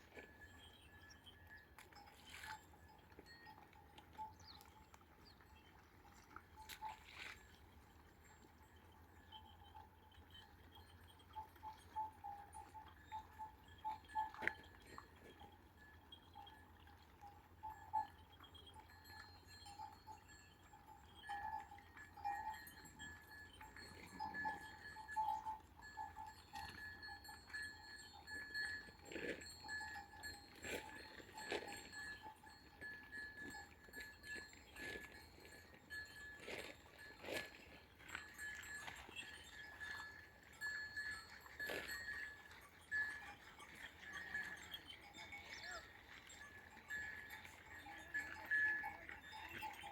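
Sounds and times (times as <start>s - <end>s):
animal bells clanking: 0.0s - 49.9s.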